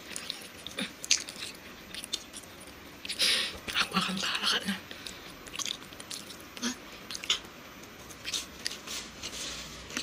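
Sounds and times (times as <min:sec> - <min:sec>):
chewing crunchy biscuit: 0:00.0 - 0:10.0.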